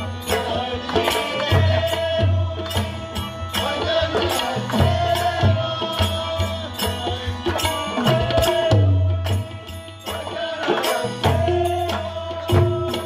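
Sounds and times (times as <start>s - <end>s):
harmonium melody: 0.0s - 13.0s.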